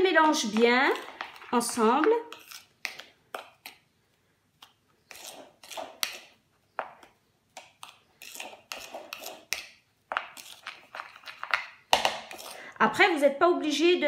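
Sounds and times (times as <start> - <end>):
spoon stirring dry mix in bowl: 0.0 - 3.9, 4.5 - 12.7.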